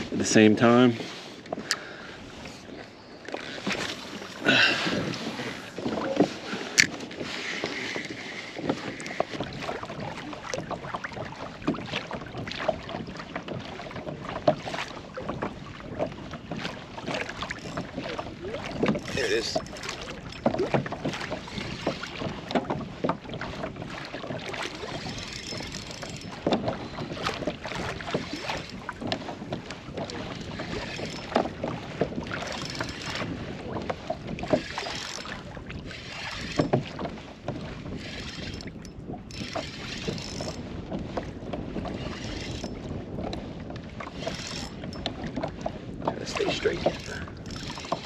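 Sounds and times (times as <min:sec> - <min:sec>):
water splashing against kayak hull: 0:00.0 - 0:48.0
wind on microphone: 0:00.0 - 0:48.0.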